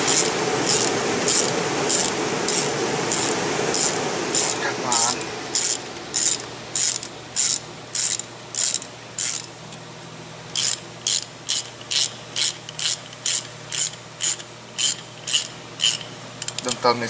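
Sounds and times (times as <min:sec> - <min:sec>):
hand ratchet clicking: 0:00.0 - 0:09.5, 0:10.6 - 0:16.8.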